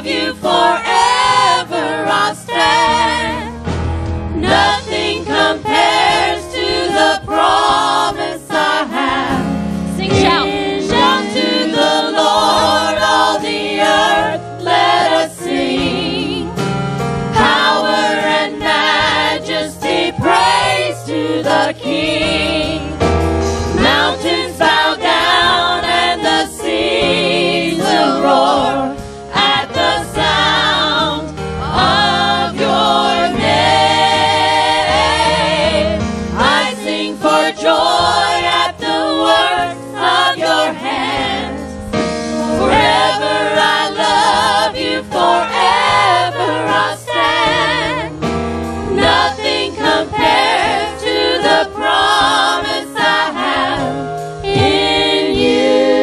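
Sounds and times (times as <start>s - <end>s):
choir singing gospel song: 0.0s - 56.0s
musical accompaniment: 0.0s - 56.0s.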